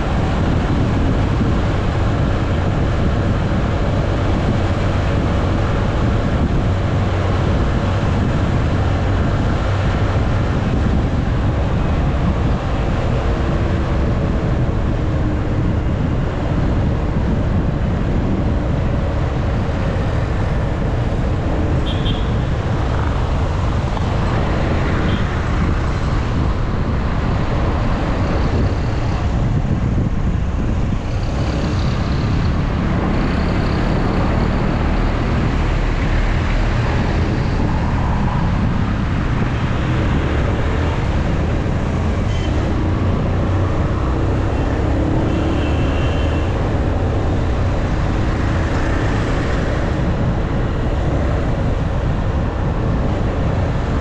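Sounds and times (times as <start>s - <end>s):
road noise: 0.0s - 54.0s
wind buffeting microphone: 0.0s - 54.0s.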